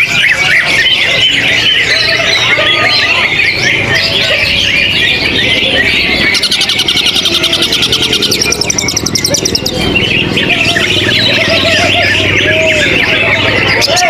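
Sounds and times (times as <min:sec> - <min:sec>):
fast pulsed bird trill: 0:00.0 - 0:14.0
songbirds chirping: 0:00.0 - 0:14.0.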